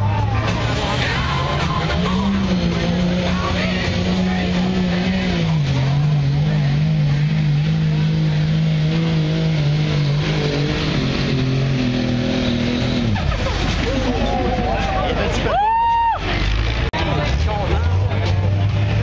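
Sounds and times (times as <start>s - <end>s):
truck engine at high revs: 0.0s - 15.5s, 16.1s - 19.0s.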